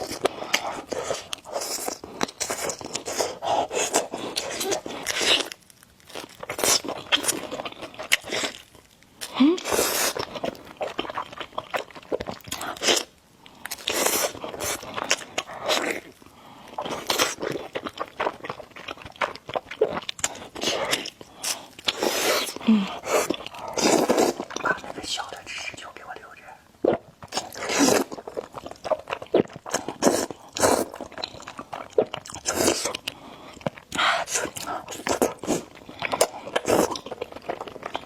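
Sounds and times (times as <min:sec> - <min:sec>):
wet chewing with mouth clicks: 0:00.0 - 0:38.0.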